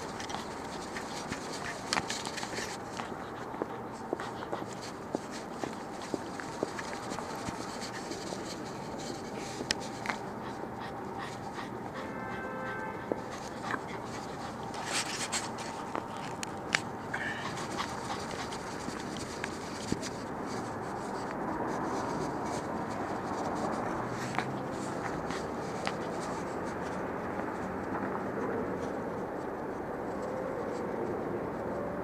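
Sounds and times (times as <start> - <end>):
scratching and rustling in leaves: 0.0 - 10.4, 13.3 - 32.0.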